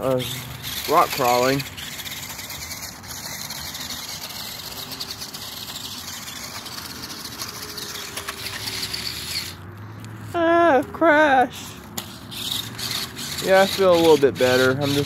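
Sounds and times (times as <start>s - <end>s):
wheels scrabbling on gravel: 0.0s - 9.6s, 11.6s - 15.0s
toy car motor whining: 0.0s - 15.0s.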